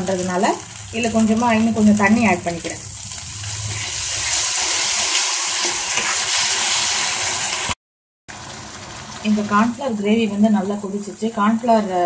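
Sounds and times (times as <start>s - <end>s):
sauce sizzling in a hot pan: 0.0s - 11.9s.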